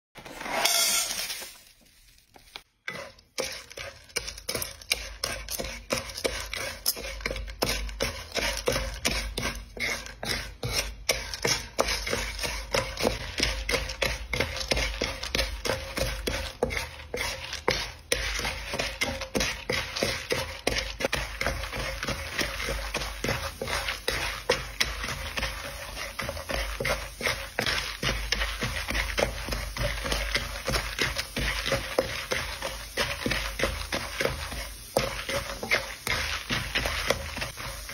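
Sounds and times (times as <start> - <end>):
popcorn sizzling and crackling: 0.2 - 37.9
wooden spatula scraping wok: 0.2 - 37.9.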